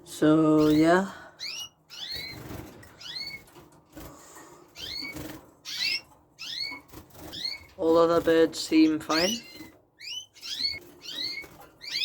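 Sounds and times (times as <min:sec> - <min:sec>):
canaries chirping: 0:00.0 - 0:12.0.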